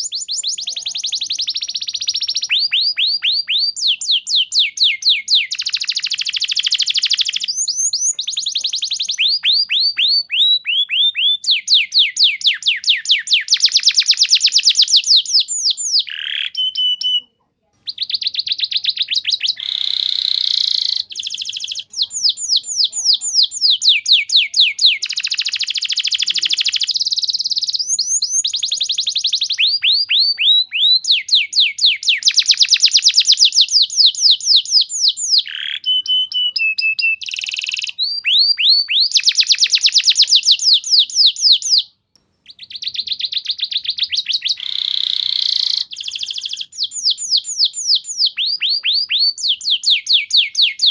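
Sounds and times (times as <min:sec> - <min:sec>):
canary singing fast trills: 0:00.0 - 0:50.9.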